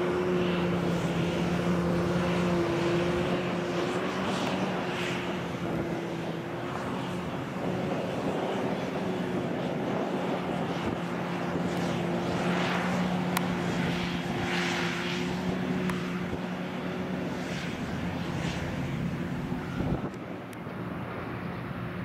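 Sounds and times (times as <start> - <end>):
constant low hum: 0.0 - 22.0
diesel engine drone: 0.0 - 22.0.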